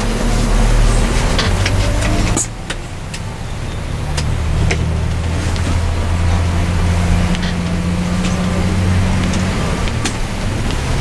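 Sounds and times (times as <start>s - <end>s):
coach engine drone: 0.0s - 11.0s
heavy rain hiss: 0.0s - 11.0s.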